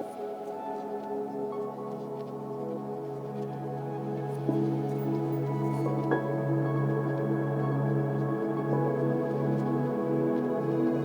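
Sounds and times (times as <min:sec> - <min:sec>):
ambient music of held tones: 0:00.0 - 0:11.0.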